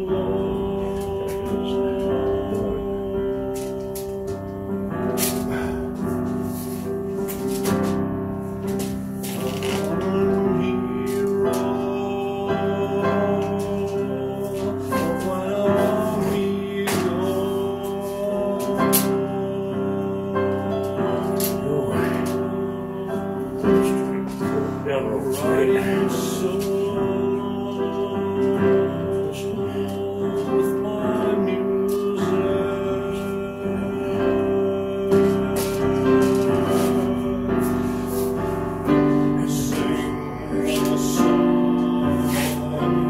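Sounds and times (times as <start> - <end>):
keyboard-led song with singing: 0.0 - 43.0.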